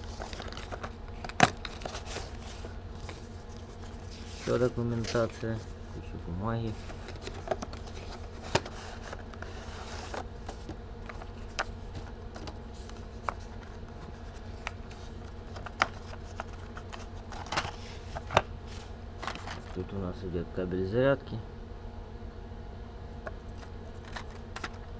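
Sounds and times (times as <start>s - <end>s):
paper and cardboard rustling: 0.0s - 19.9s, 23.5s - 24.8s
steady low hum: 0.0s - 24.9s.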